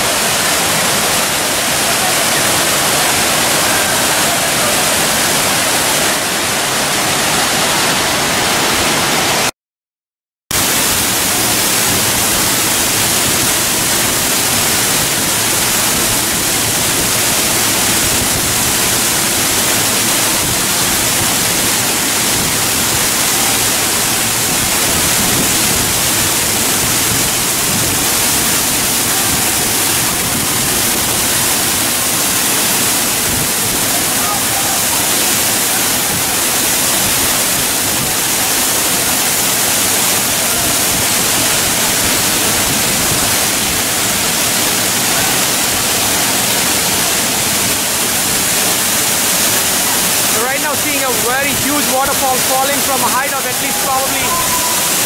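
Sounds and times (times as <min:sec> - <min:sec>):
waterfall rushing: 0:00.0 - 0:09.5, 0:10.5 - 0:55.0.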